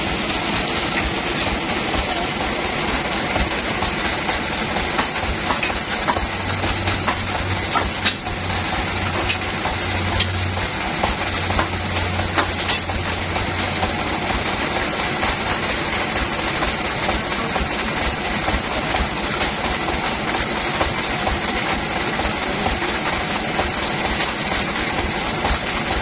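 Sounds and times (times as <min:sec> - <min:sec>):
sawmill machinery rattling: 0:00.0 - 0:26.0.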